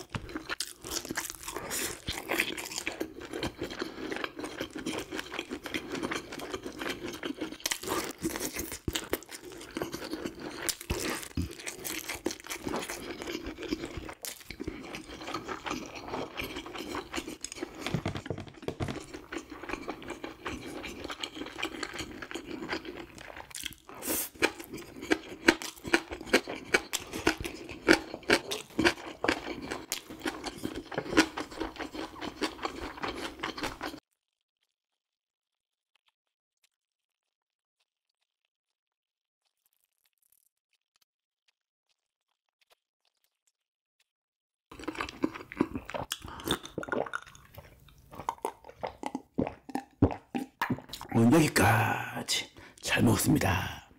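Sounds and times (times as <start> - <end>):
chewing and crunching food: 0.0 - 38.5, 39.4 - 44.1, 44.7 - 53.9.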